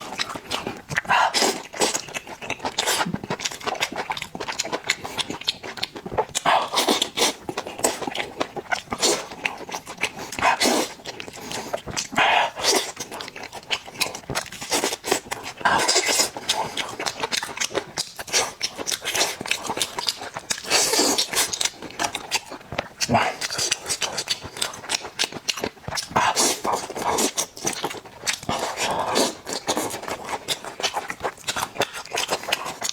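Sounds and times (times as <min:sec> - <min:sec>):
person biting and chewing: 0:00.0 - 0:32.9.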